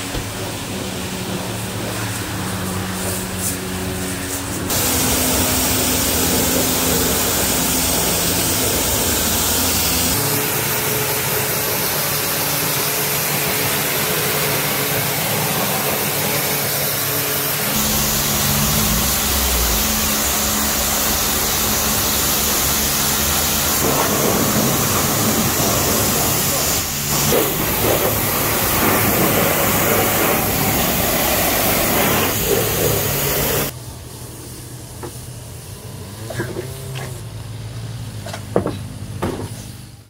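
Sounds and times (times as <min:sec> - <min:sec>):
high-pressure water jet spraying: 0:00.0 - 0:37.1.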